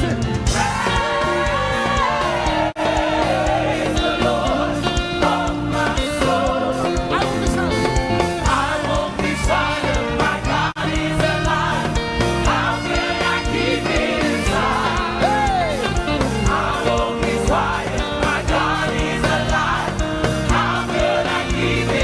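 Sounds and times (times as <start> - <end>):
band with steady beat: 0.0 - 22.0
choir singing: 0.0 - 22.0.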